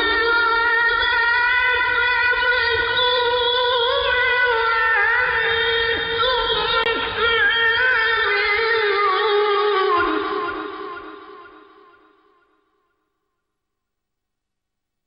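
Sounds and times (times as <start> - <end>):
man reciting melismatically: 0.0 - 12.4.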